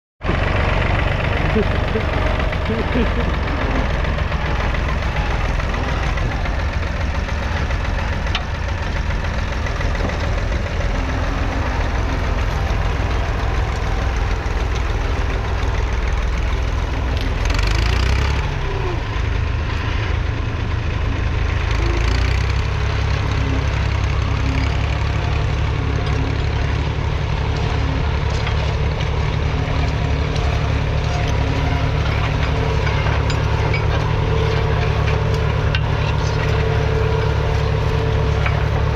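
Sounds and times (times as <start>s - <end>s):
diesel engine running steadily: 0.2s - 38.9s.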